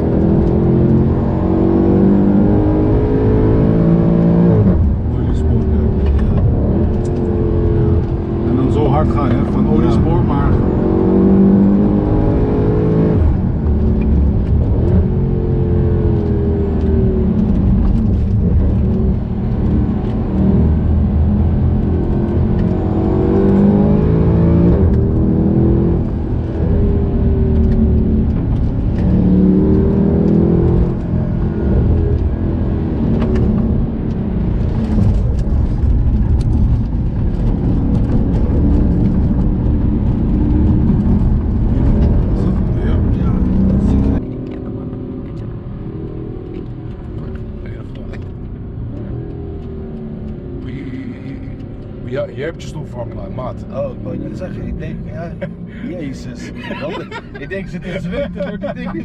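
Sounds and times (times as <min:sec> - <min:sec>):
car engine accelerating: 0:00.0 - 0:59.0
road and tyre noise: 0:00.0 - 0:59.0.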